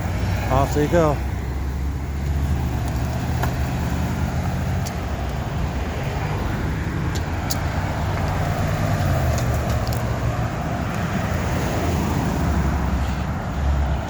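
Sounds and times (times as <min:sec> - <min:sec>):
street traffic: 0:00.0 - 0:14.0
vehicle engine humming: 0:00.0 - 0:14.0.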